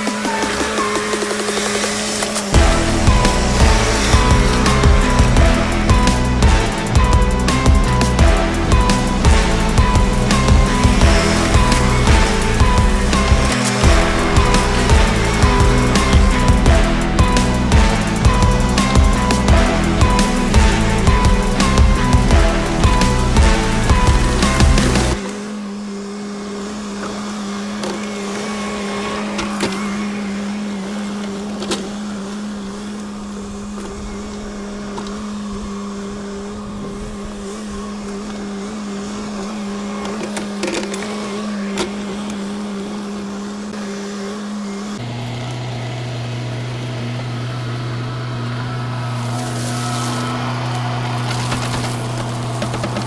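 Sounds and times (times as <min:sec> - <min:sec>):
skid steer engine running: 0:00.0 - 0:53.0.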